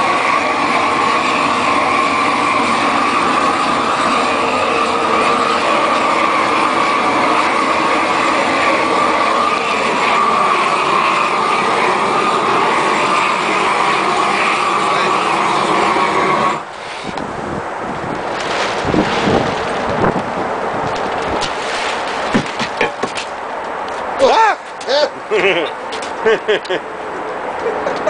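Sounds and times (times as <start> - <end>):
torch burning with rushing noise: 0.0 - 28.0.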